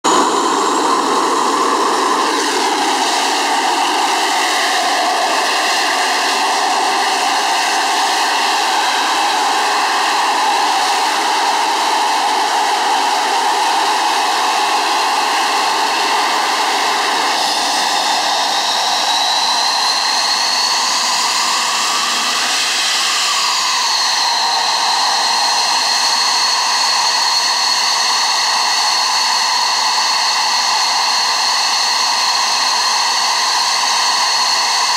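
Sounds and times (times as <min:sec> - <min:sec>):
high-pitched whine: 0:00.0 - 0:34.9
jet engine starting up: 0:00.0 - 0:34.9.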